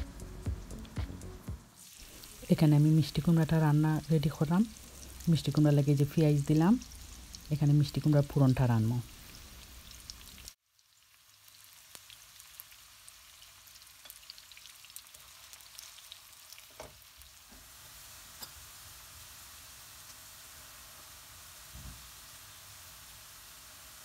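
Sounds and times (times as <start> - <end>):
onions sizzling in oil: 1.6 - 24.0.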